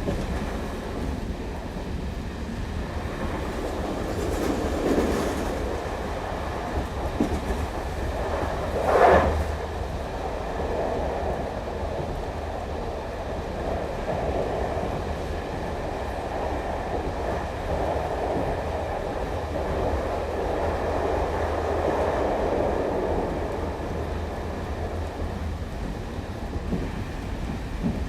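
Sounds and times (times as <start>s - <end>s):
trains running: 0.0s - 28.0s.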